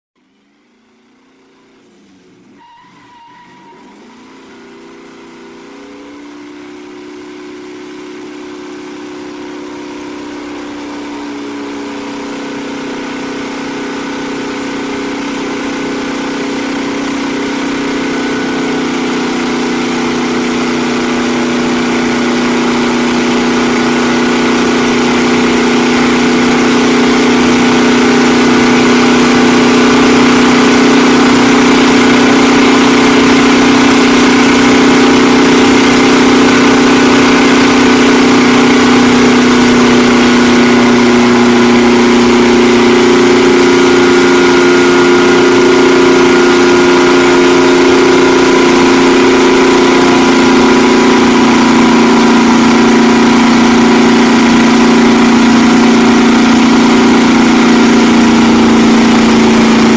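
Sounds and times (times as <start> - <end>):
car engine at high revs: 0.2 - 59.9
spinning tyre hissing: 2.5 - 59.9.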